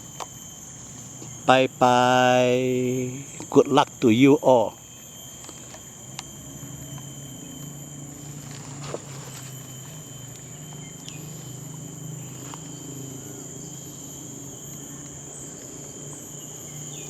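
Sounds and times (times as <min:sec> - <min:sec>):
insect chorus whining: 0:00.0 - 0:17.0
low steady hum: 0:00.0 - 0:17.0.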